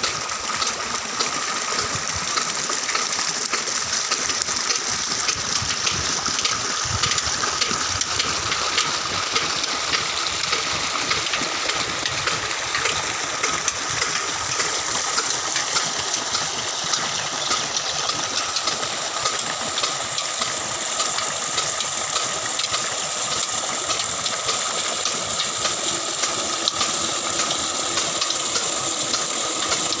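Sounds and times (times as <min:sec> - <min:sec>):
water gushing into basin: 0:00.0 - 0:30.0.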